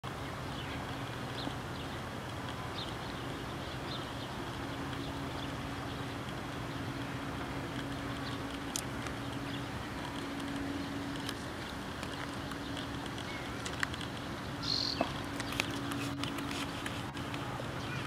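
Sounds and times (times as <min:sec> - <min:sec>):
low hum: 0:00.0 - 0:18.0
background hiss: 0:00.1 - 0:18.0.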